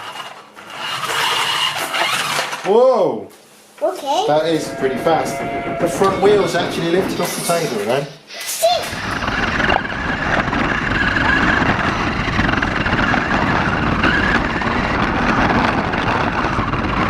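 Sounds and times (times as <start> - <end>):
gear and wheel noise: 0.0 - 2.6, 4.4 - 8.0, 8.9 - 17.0
toy car electric motor whining: 0.0 - 2.7, 4.4 - 17.0.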